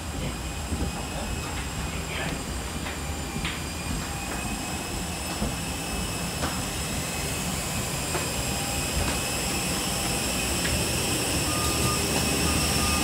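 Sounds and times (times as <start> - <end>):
thin high whines: 1.0 - 13.0.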